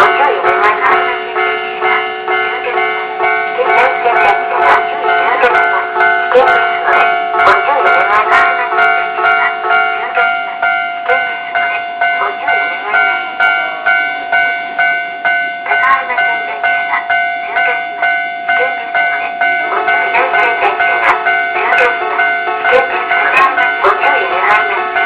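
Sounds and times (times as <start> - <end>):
level-crossing alarm ringing: 0.0 - 25.0.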